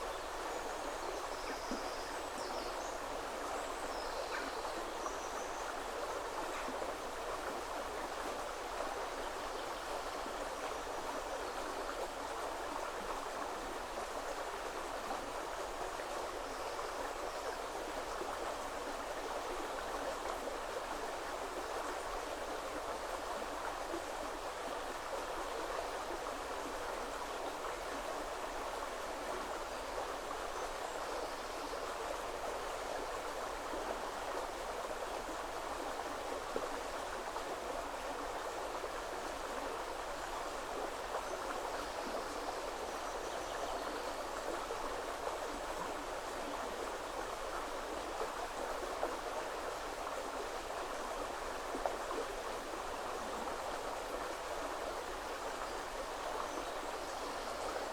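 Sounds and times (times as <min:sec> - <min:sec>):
river flowing: 0:00.0 - 0:57.9.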